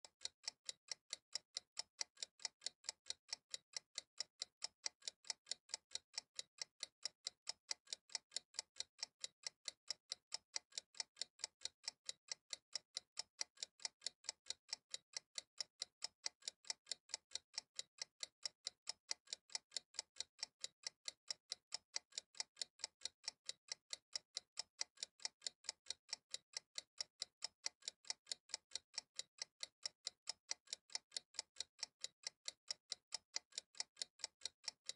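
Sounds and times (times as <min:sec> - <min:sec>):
timer ticking: 0:00.0 - 0:34.9.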